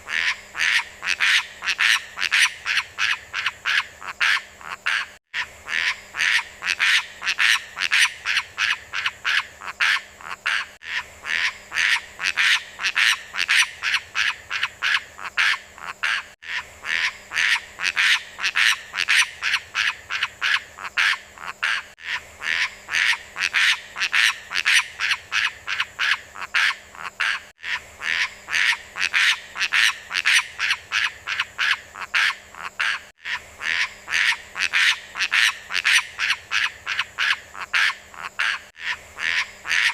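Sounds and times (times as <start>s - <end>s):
bird giving harsh calls: 0.1s - 39.9s.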